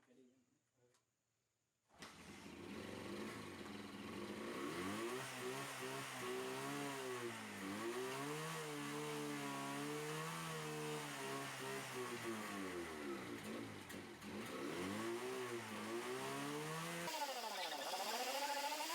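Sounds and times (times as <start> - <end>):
motorcycle engine revving: 2.4 - 18.9.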